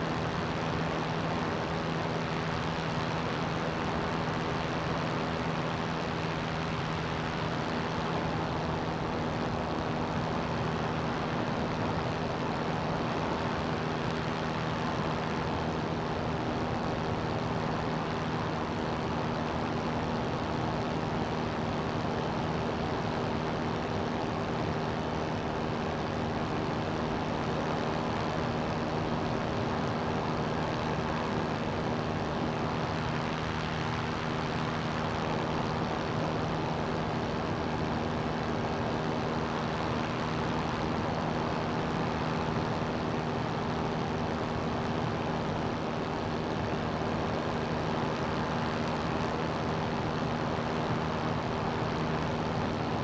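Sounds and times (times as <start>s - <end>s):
aircraft engine and propeller drone: 0.0s - 53.0s.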